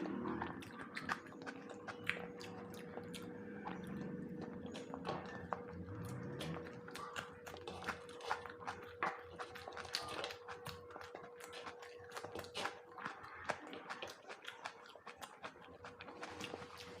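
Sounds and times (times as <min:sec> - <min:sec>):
chewing and wet mouth smacks: 0:00.0 - 0:17.0
faint steady hum: 0:00.0 - 0:17.0.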